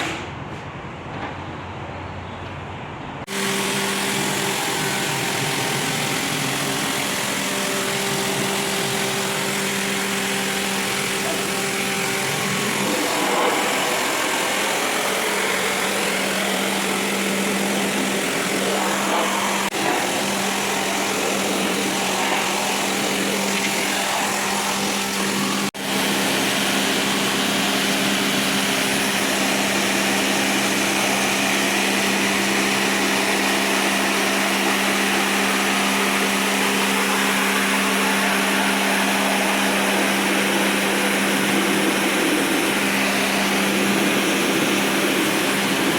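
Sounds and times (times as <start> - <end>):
cleaning machine motor humming: 3.3 - 45.9.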